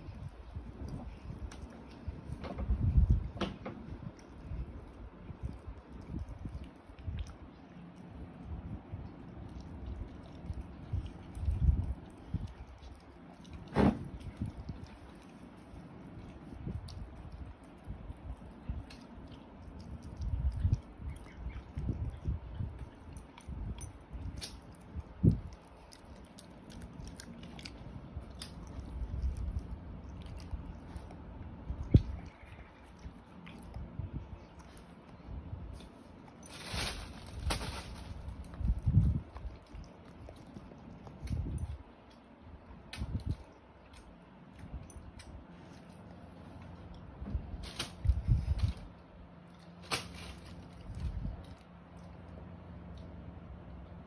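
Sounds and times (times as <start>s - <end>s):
dog chewing and licking: 0.0s - 36.5s, 38.3s - 47.1s.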